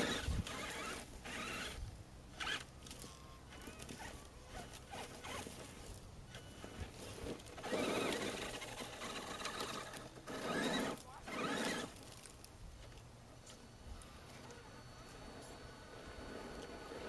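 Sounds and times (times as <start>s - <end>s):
toy truck electric motor whining: 0.0s - 12.3s, 13.8s - 17.0s.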